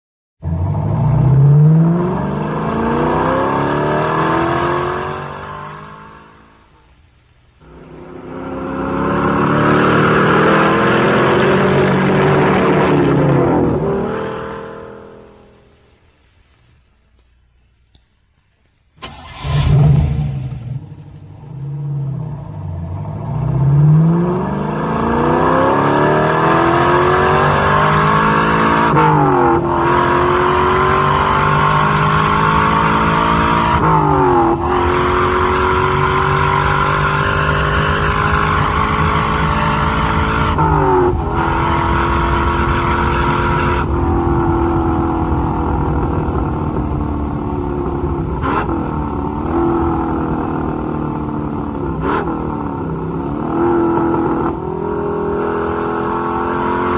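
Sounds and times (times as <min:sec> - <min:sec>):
car engine accelerating: 0:00.4 - 0:06.8, 0:07.6 - 0:16.0, 0:19.0 - 0:56.9.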